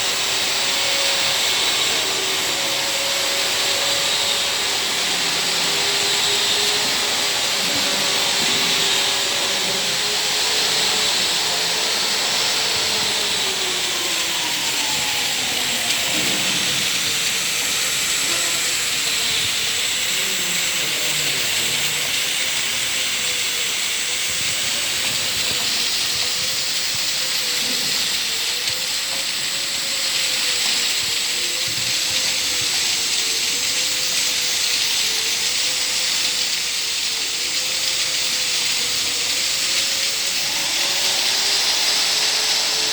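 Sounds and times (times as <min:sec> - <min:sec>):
washing machine hiss: 0:00.0 - 0:42.9.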